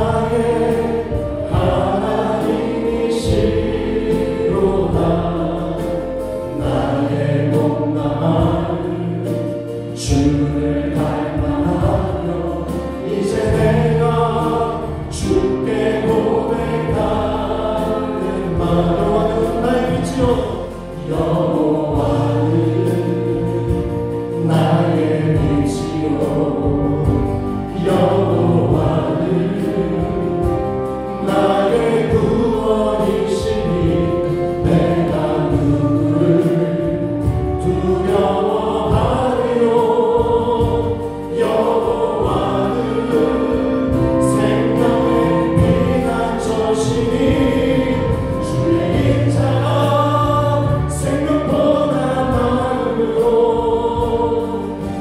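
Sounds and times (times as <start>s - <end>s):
bass guitar: 0.0s - 55.0s
drums keeping a steady beat: 0.0s - 55.0s
group singing gospel song: 0.0s - 55.0s
keyboards: 0.0s - 55.0s.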